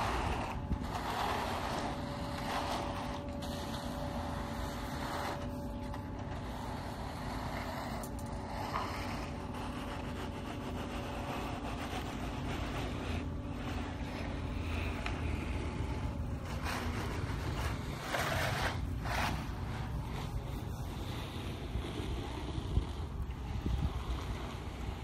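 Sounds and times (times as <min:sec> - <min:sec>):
screed boards scraping wet concrete: 0:00.0 - 0:25.0.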